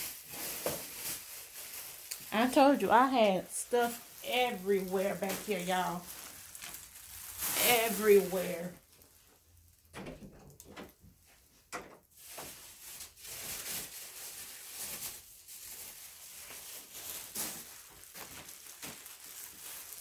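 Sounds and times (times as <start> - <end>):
rustling: 0.0 - 9.9, 10.5 - 20.0.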